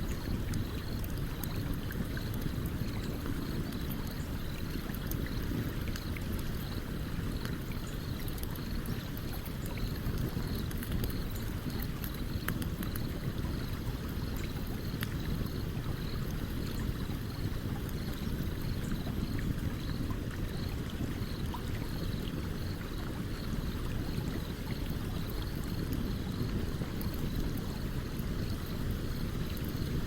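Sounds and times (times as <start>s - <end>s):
stream water running: 0.0s - 30.0s
campfire crackling: 0.2s - 30.0s.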